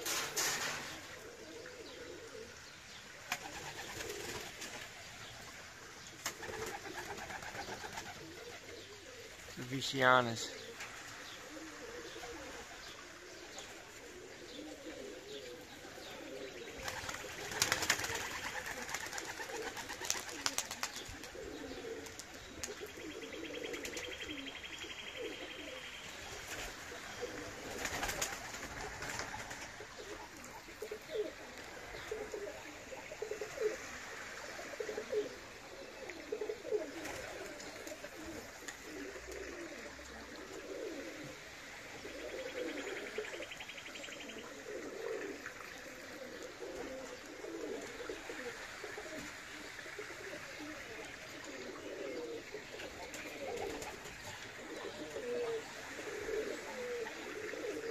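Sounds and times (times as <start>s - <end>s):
pigeons cooing: 0.0s - 57.9s.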